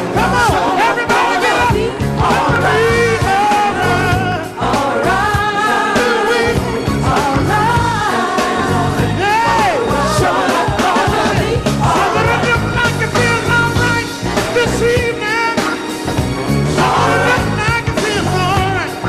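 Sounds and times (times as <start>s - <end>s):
band with bass and drums: 0.0s - 19.0s.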